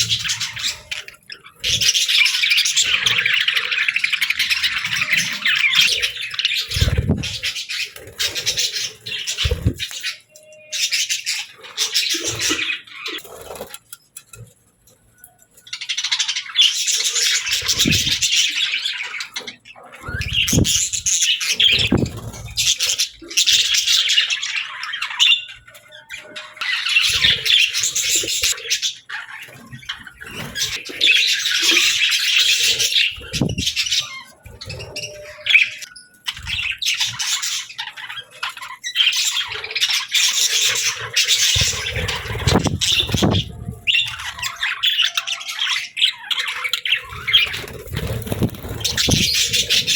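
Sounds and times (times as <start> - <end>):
budgies chattering and chirping: 0.0 - 49.9.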